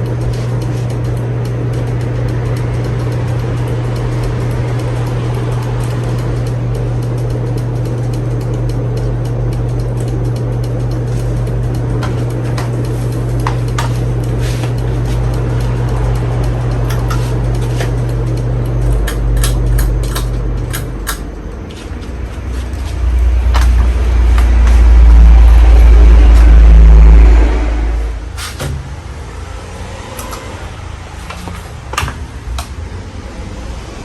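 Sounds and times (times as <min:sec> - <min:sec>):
ceiling fan low rumble: 0:00.0 - 0:34.0.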